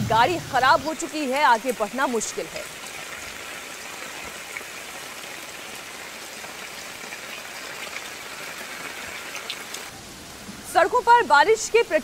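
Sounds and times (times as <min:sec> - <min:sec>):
floodwater flowing: 0:00.0 - 0:12.0
heavy rain: 0:00.0 - 0:12.0.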